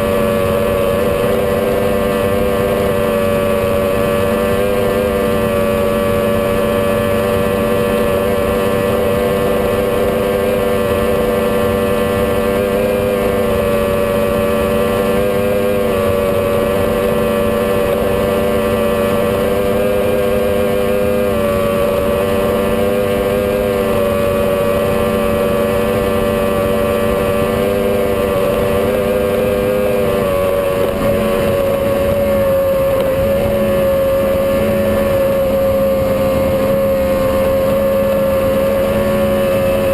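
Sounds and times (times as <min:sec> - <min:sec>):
powerboat engine cruising: 0:00.0 - 0:39.9.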